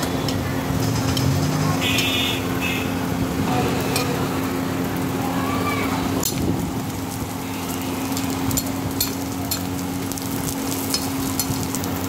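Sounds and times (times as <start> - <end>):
hum and hiss of food stall: 0.0 - 12.0.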